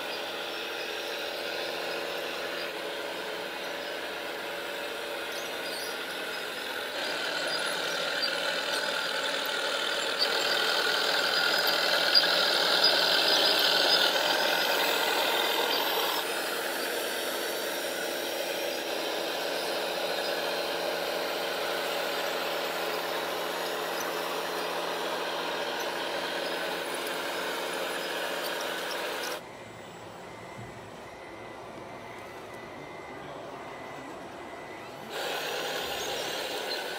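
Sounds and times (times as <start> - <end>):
model tractor mechanical drone: 0.0 - 36.9.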